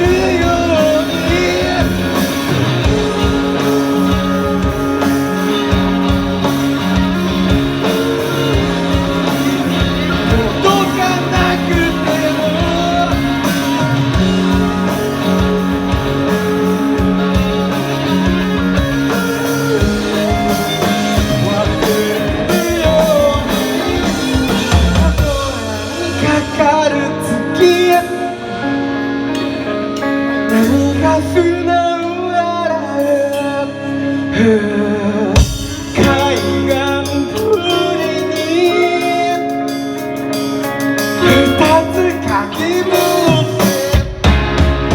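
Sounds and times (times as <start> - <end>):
rock band music: 0.0 - 44.9.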